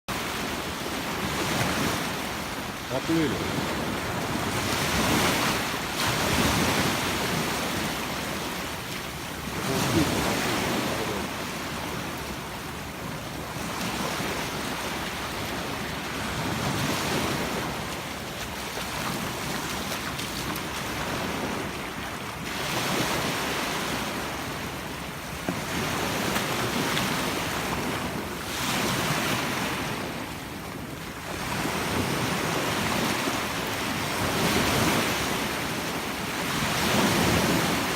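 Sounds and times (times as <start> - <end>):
waves washing onto beach: 0.1 - 37.9.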